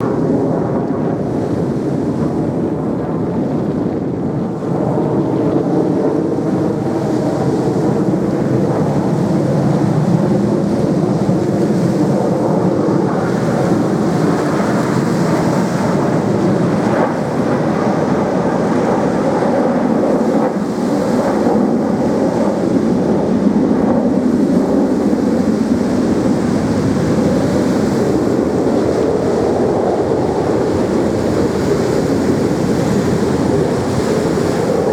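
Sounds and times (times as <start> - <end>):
jet engines roaring: 0.0 - 34.9.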